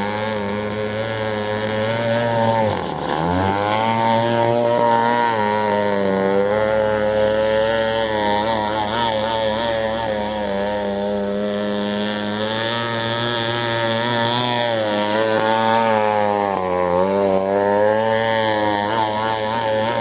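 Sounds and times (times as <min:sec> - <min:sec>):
two-stroke boat engine at speed: 0:00.0 - 0:20.0.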